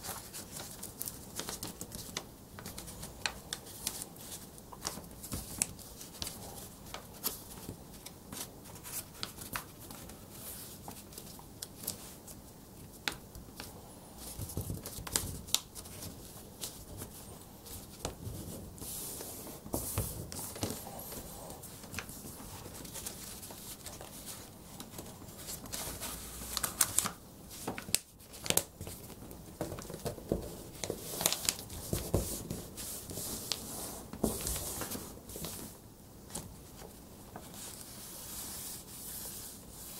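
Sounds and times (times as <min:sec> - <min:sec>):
paper folding and rustling: 0:00.0 - 0:39.9.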